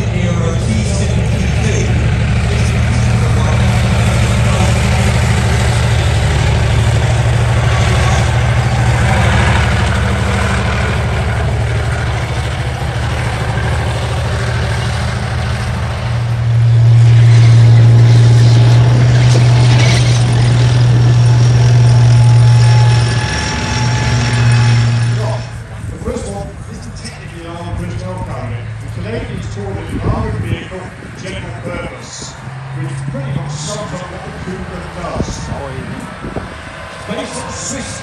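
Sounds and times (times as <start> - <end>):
tank engines droning: 0.0 - 38.0.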